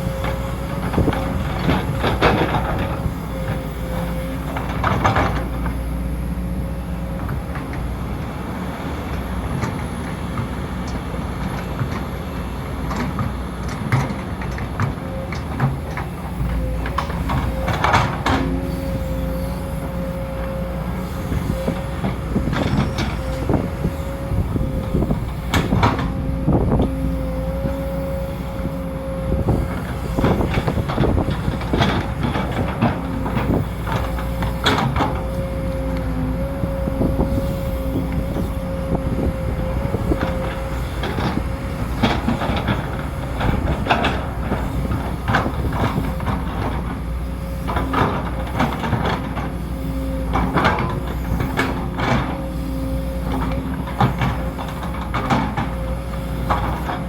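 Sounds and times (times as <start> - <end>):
continuous whine: 0.0 - 57.0
excavator engine running: 0.0 - 57.0.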